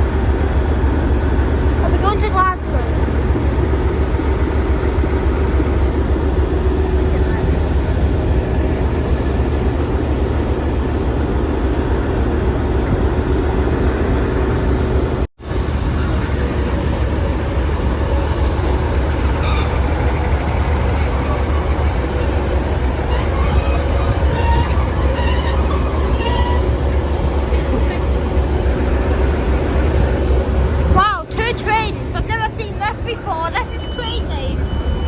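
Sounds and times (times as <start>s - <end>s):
diesel train rumbling: 0.0s - 35.0s.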